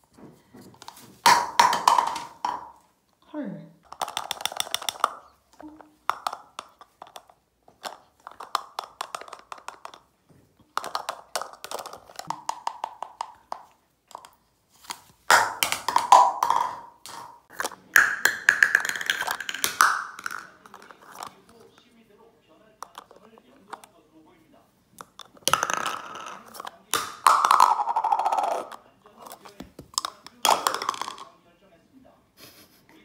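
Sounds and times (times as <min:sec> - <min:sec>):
plastic cups tapping beak: 0:00.4 - 0:02.9, 0:03.8 - 0:21.8, 0:22.8 - 0:23.9, 0:25.0 - 0:31.3.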